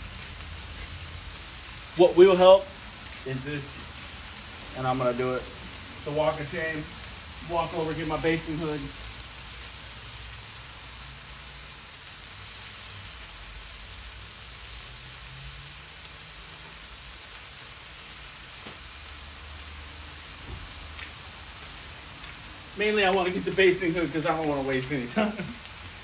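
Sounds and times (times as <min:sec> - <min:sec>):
sausages sizzling on a griddle: 0:00.0 - 0:26.0.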